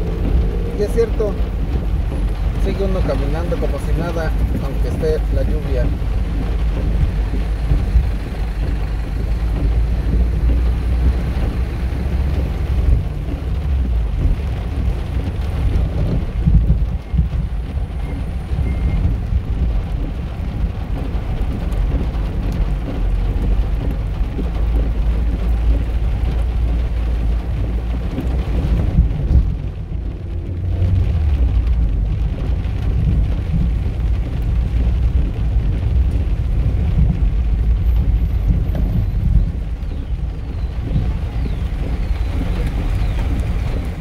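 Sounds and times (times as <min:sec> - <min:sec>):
deep rumble: 0:00.0 - 0:44.0
steady rain falling: 0:00.0 - 0:44.0.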